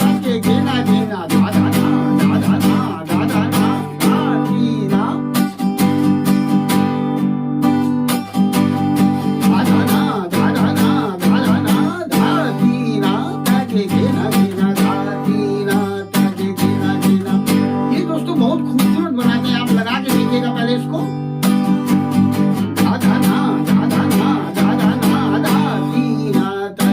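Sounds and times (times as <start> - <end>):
acoustic guitar strummed: 0.0 - 26.9.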